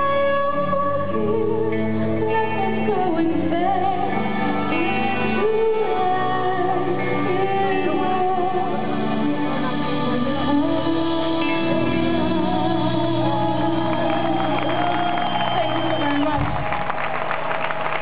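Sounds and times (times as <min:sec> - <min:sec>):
woman singing: 0:00.0 - 0:16.6.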